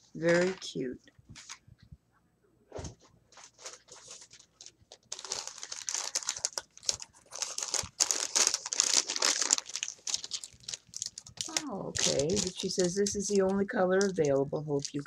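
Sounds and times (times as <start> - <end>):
plastic packaging crinkling: 0.2 - 1.6, 3.3 - 15.0.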